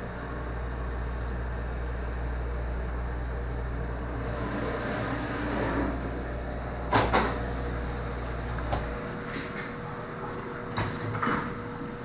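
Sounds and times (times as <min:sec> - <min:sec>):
dishwasher low hum: 0:00.0 - 0:12.0.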